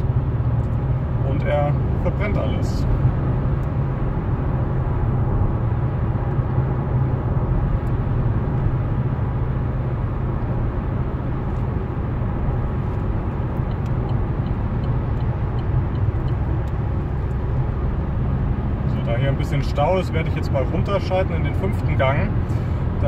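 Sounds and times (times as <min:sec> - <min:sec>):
car engine rumble: 0:00.0 - 0:23.0.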